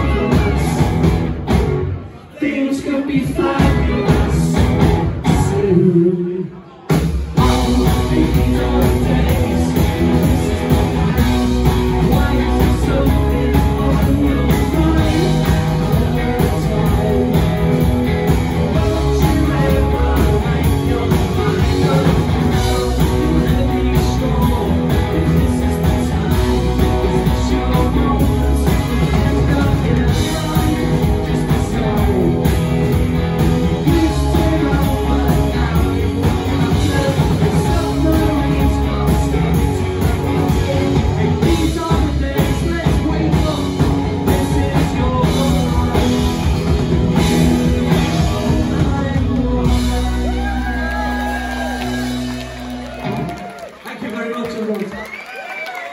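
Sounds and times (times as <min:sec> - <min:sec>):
person singing: 0:00.0 - 0:01.2, 0:02.1 - 0:53.2
bass guitar: 0:00.0 - 0:53.9
electric guitars: 0:00.0 - 0:53.9
drums: 0:00.0 - 0:55.9.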